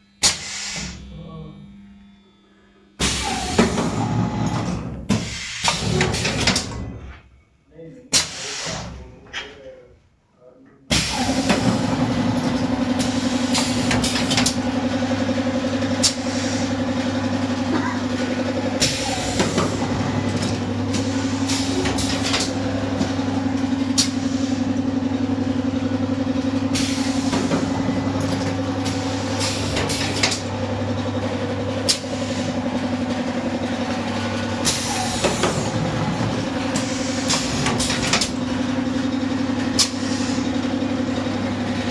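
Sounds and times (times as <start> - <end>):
machine humming with clicks and knocks: 0.0 - 41.9.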